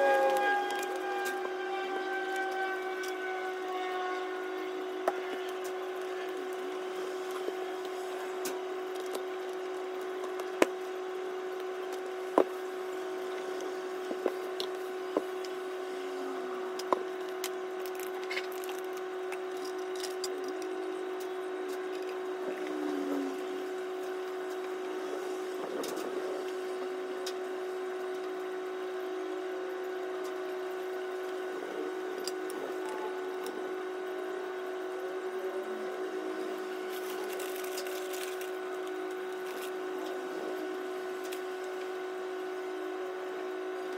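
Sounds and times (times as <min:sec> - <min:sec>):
steady hum: 0:00.0 - 0:43.9.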